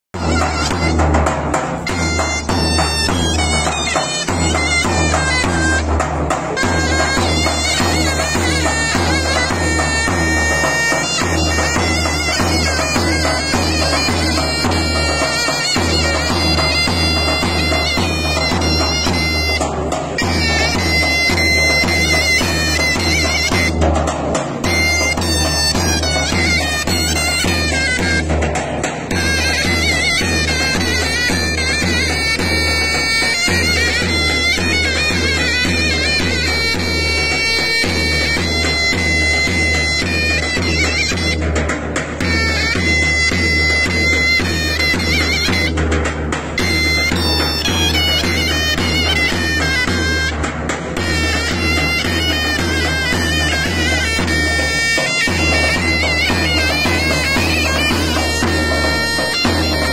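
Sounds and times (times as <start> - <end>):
large drum beat: 0.1 - 59.9
shrill reedy pipe melody: 0.2 - 28.4, 29.1 - 45.9, 46.5 - 59.9.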